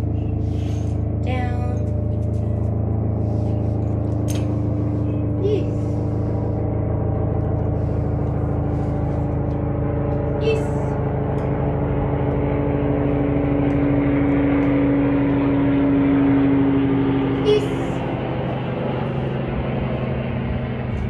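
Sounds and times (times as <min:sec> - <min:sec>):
machine drone with held tone: 0:00.0 - 0:21.0.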